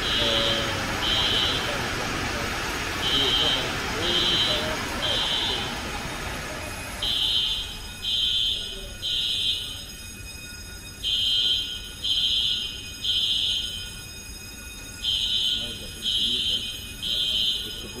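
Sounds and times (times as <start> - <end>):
fire alarm beeping: 0.0 - 18.0.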